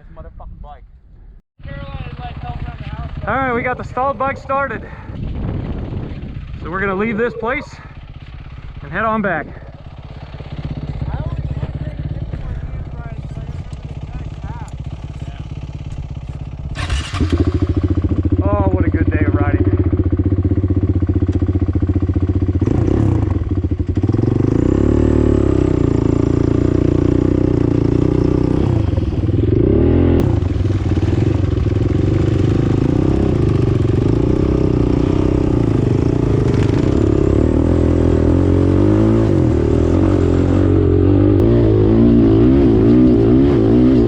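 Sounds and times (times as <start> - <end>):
off-road vehicle engine running: 1.6 - 44.0.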